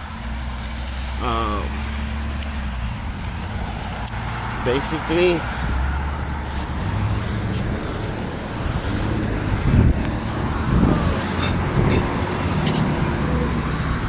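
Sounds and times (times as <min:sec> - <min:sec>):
rumble of passing cars: 0:00.0 - 0:14.0.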